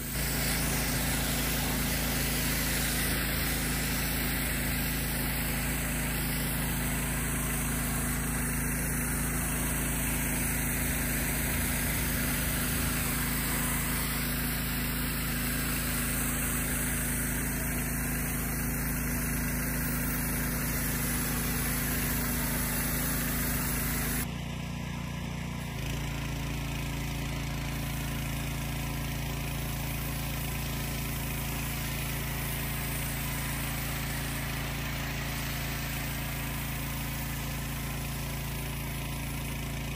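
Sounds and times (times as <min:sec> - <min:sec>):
water spray hissing: 0:00.0 - 0:24.3, 0:25.9 - 0:39.9
pressure washer motor hum: 0:00.0 - 0:39.9.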